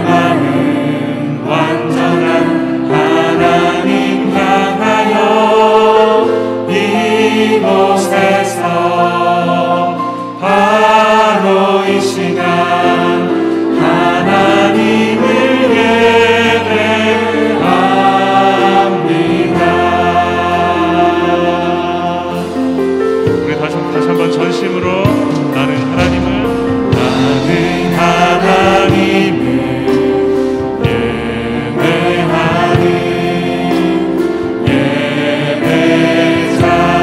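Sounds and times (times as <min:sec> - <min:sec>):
group singing worship song: 0:00.0 - 0:23.3, 0:25.8 - 0:37.0
keyboard: 0:00.0 - 0:37.0.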